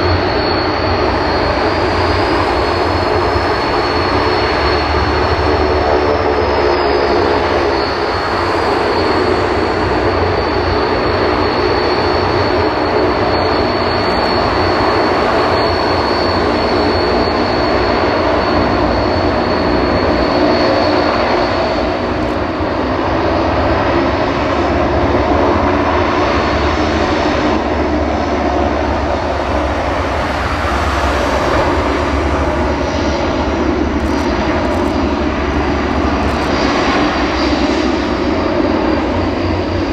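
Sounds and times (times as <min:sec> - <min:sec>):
high turbine whine: 0:00.0 - 0:39.9
turboprop engines droning: 0:00.0 - 0:39.9.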